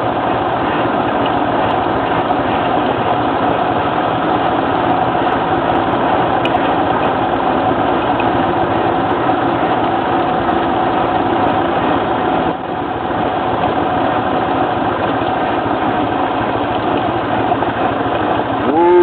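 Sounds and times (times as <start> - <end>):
atv engine running: 0.0 - 19.0.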